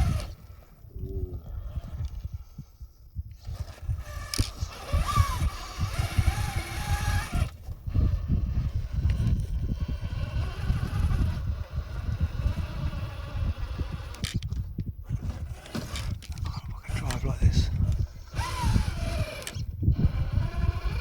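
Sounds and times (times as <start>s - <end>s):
electric motor whining: 0.0s - 2.4s, 3.3s - 21.0s
wind buffeting microphone: 0.0s - 21.0s.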